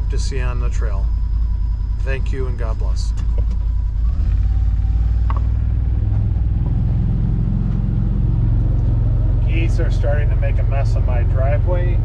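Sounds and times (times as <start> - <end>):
engine running with low rumble: 0.0 - 12.0.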